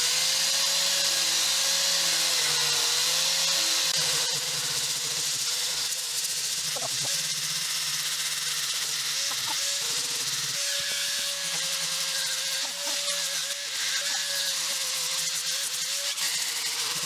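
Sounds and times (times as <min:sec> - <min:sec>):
electric power tool motor hum: 0:00.0 - 0:17.0.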